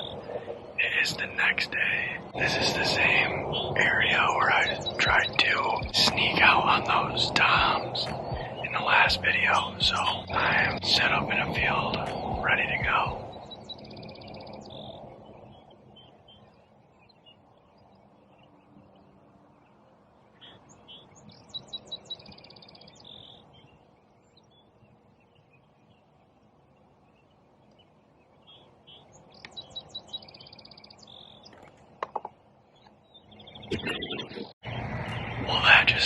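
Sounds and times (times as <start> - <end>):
faint outdoor hush: 0.0 - 36.0
songbird singing with trill: 0.0 - 36.0.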